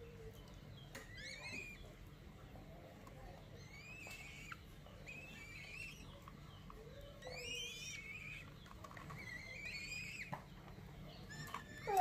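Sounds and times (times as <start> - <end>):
chicks begging calls: 0.0 - 12.0.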